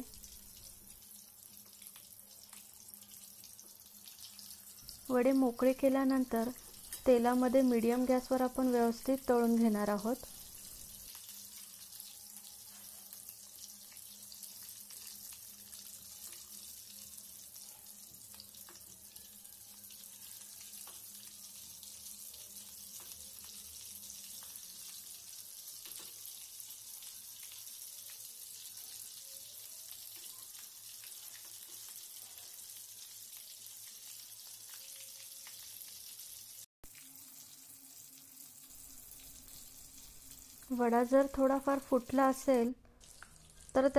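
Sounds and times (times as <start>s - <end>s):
food deep-frying in oil: 0.0s - 43.9s.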